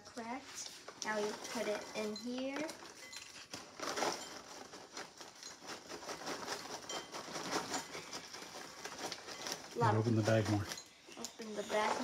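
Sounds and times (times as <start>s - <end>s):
paper bag crinkling: 0.0s - 12.0s.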